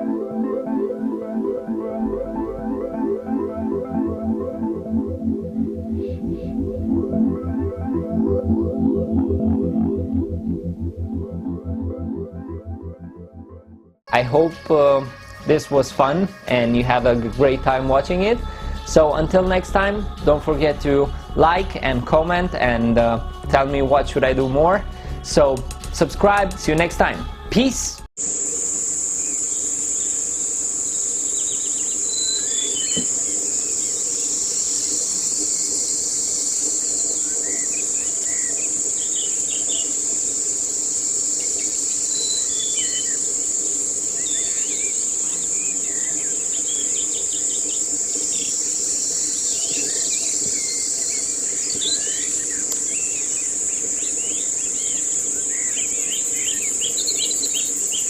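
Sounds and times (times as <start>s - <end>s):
insects droning: 0.0s - 11.5s, 14.2s - 23.9s, 24.6s - 58.0s.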